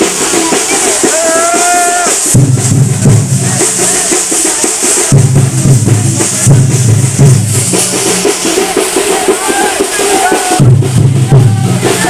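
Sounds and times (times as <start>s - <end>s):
fast loud drumming: 0.0s - 12.0s.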